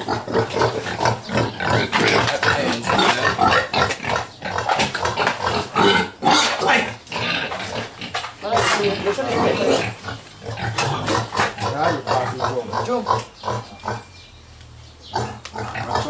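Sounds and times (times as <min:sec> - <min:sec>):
pigs squealing: 0:00.0 - 0:14.2, 0:15.1 - 0:16.0.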